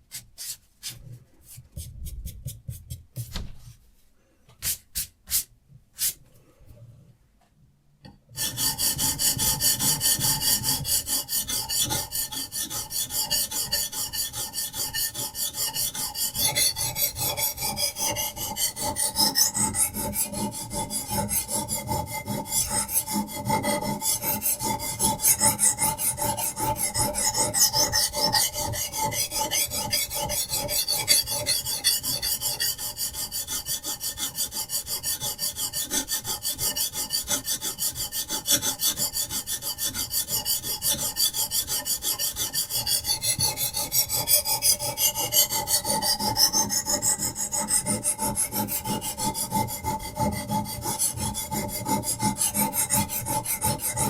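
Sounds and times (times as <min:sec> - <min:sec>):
sharpening stone rasping on knife: 0:08.4 - 0:54.0.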